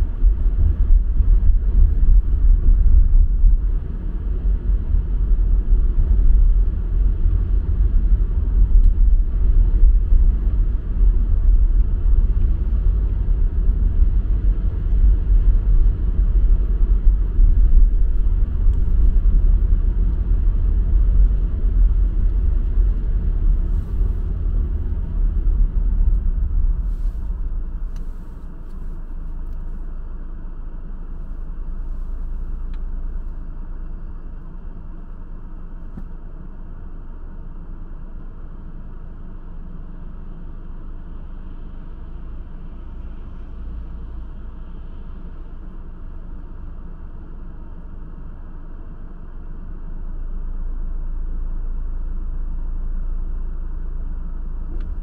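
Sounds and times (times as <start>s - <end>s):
car interior rumble: 0.0s - 55.0s.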